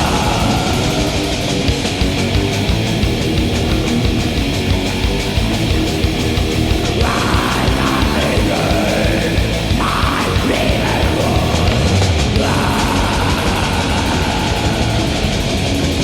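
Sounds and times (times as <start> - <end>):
black metal distorted guitars and drums: 0.0 - 16.0.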